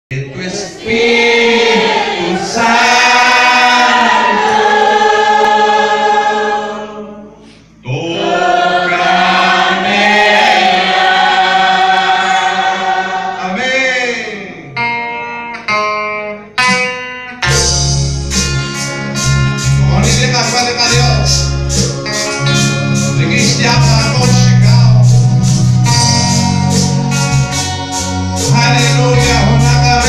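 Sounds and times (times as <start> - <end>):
gospel singing: 0.1 - 14.6, 19.8 - 30.0.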